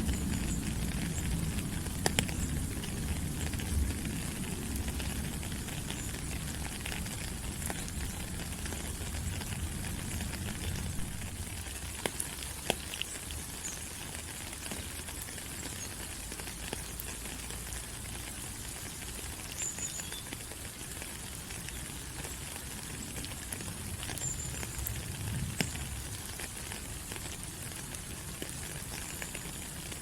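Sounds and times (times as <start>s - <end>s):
rain falling on leaves: 0.0s - 30.0s.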